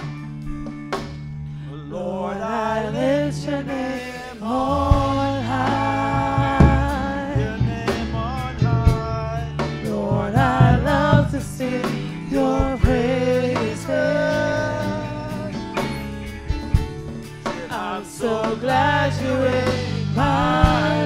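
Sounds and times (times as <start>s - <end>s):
live church band: 0.0s - 21.0s
woman singing gospel song: 1.9s - 15.6s, 17.5s - 21.0s.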